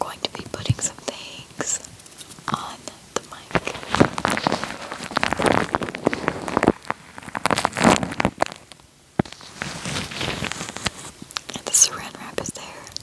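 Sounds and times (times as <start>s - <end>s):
wet crackling on microphone: 0.3s - 13.0s.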